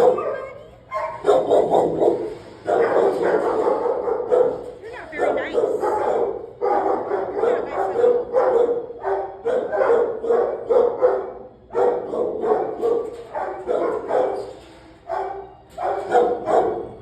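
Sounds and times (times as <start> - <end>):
dog barking aggressively: 0.0 - 17.0.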